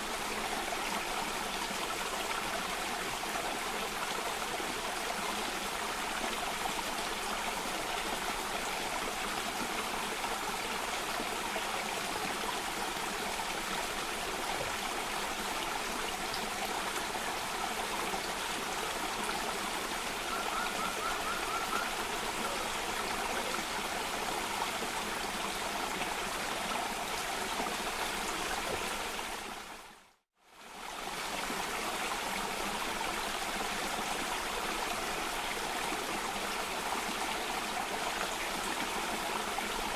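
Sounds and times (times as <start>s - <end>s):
cascading water rushing: 0.0s - 39.9s.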